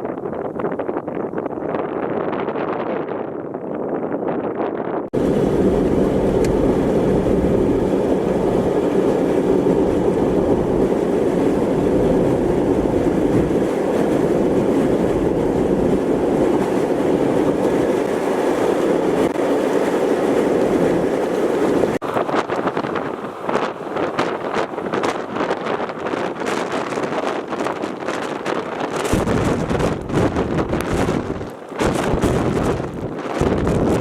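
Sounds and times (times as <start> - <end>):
tornado wind roaring: 0.0 - 34.0.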